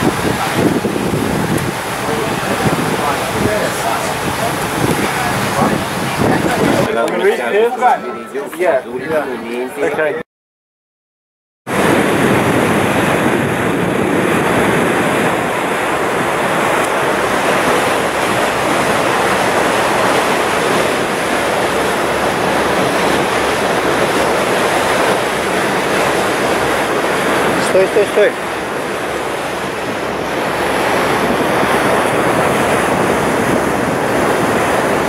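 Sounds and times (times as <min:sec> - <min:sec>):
wind buffeting microphone: 0:00.0 - 0:07.5, 0:11.7 - 0:35.0
wind and water rushing: 0:00.0 - 0:10.2, 0:11.7 - 0:35.0.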